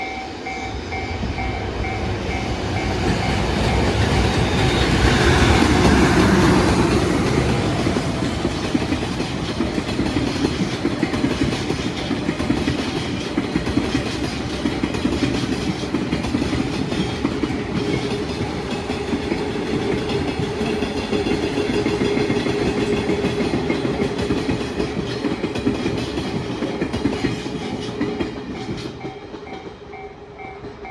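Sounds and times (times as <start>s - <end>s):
electric locomotive passing: 0.0s - 30.9s
train wheels clattering over rail joints: 2.6s - 29.8s.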